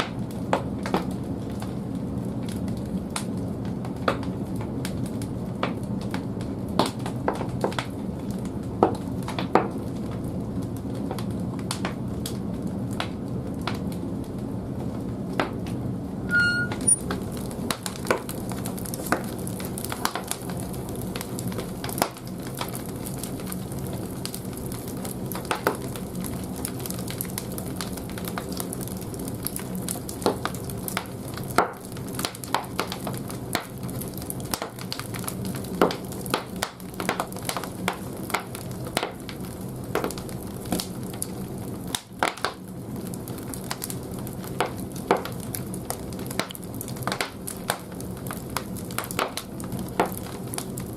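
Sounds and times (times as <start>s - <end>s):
firewood crackling and popping: 0.0s - 50.9s.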